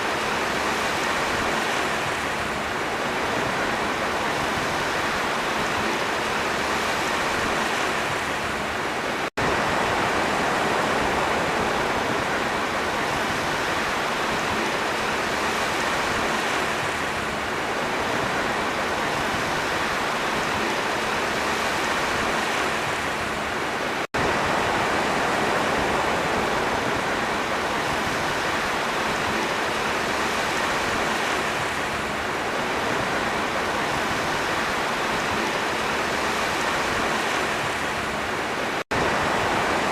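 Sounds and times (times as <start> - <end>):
sea waves rushing: 0.0 - 39.9.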